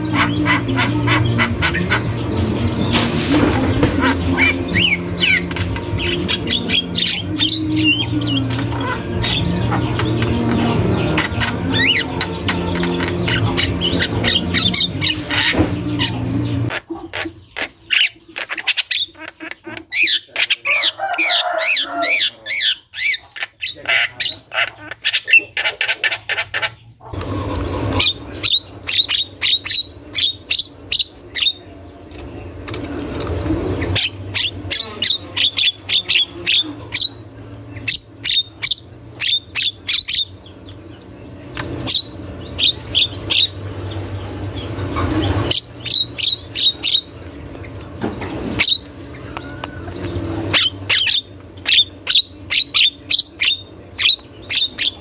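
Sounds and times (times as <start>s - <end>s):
myna chattering calls: 0.0s - 55.0s.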